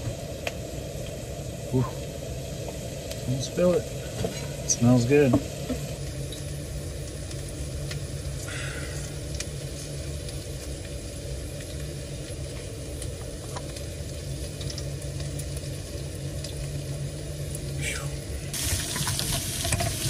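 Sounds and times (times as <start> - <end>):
onions sizzling in a pan: 0.0 - 20.0.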